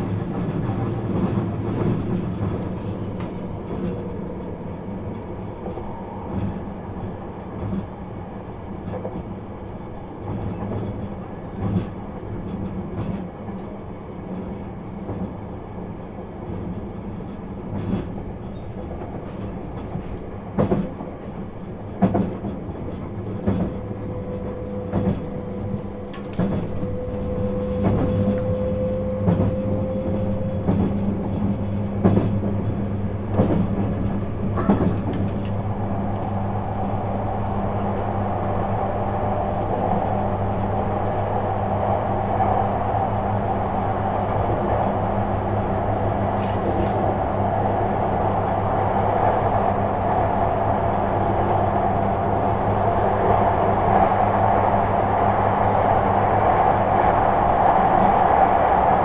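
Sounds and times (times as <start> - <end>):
train rolling rumble: 0.0 - 59.0.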